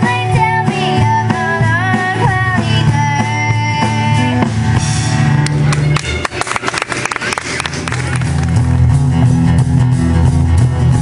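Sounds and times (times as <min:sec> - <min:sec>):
country band playing: 0:00.0 - 0:11.0.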